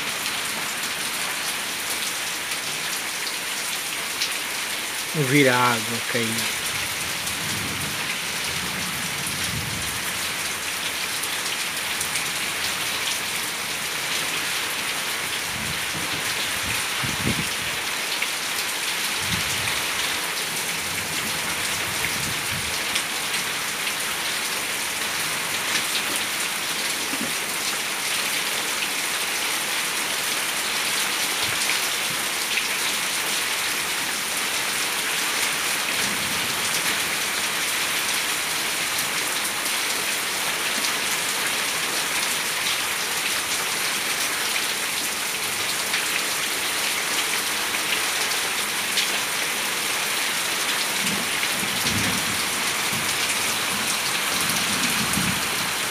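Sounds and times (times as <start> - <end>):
rain falling on path and plants: 0.0 - 55.9.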